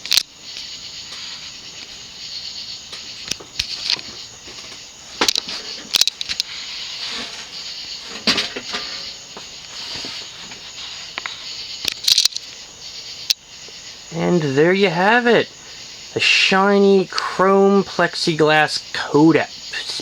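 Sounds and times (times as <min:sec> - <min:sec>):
ceiling fan hissing: 0:00.0 - 0:20.0.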